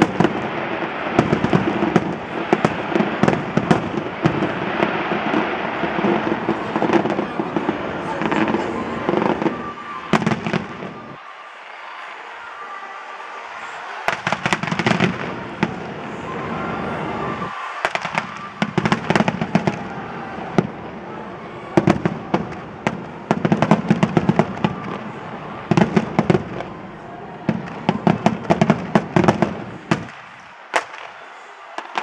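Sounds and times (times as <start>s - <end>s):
fireworks bangs and crackles: 0.0s - 12.0s, 13.4s - 32.0s.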